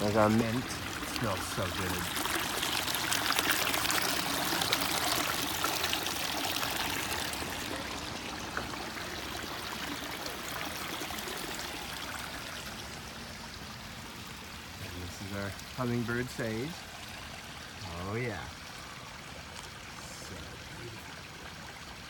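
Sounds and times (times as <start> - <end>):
water splashing over rocks: 0.0 - 22.0.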